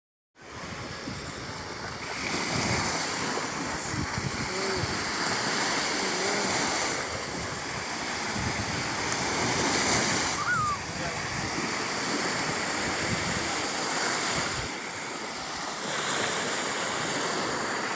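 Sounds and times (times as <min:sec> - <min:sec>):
waves washing onto shore: 0:00.4 - 0:17.9.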